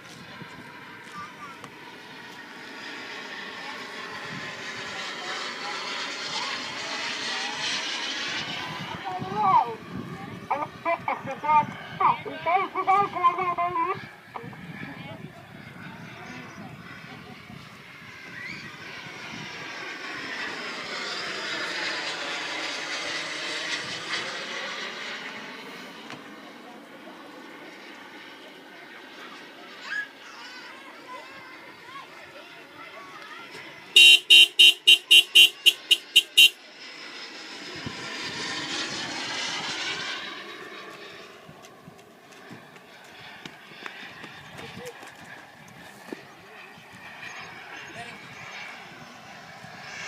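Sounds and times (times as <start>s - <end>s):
model jet engine whine: 0.0s - 50.0s.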